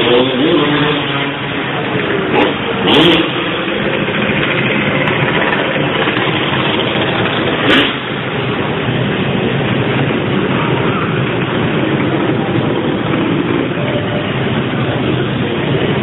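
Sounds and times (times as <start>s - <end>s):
motorcycle engine running loudly: 0.0s - 16.0s.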